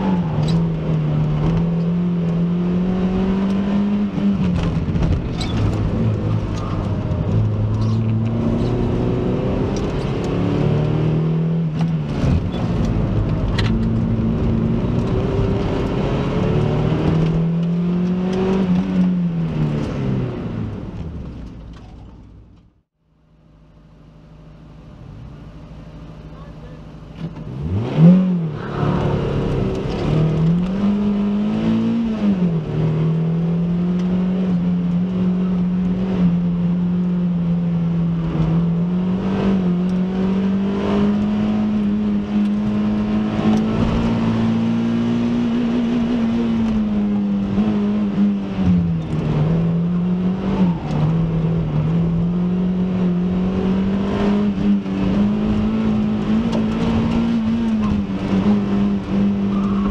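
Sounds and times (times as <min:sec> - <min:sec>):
car engine at high revs: 0:00.0 - 0:59.9.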